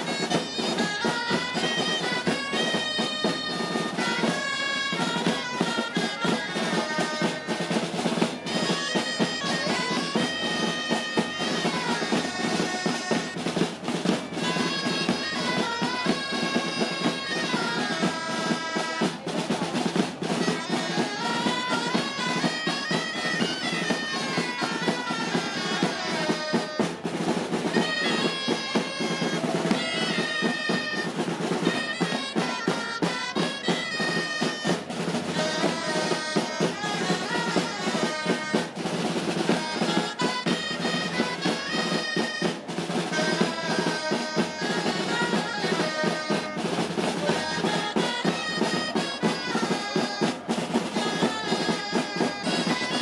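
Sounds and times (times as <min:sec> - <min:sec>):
instrumental music with drum beat: 0:00.0 - 0:53.0.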